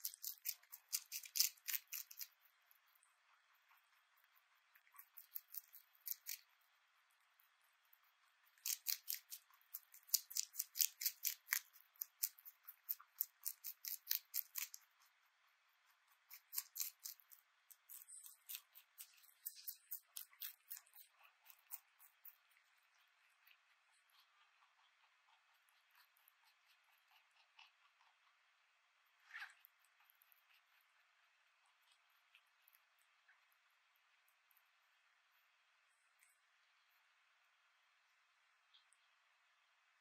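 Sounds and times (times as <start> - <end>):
rabbit crunching vegetable: 0.0 - 38.0.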